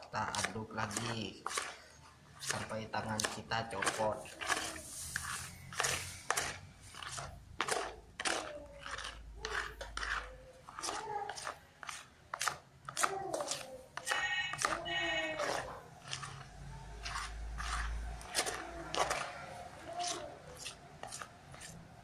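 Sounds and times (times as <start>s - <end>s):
hand squelching wet dough: 0.0s - 22.0s.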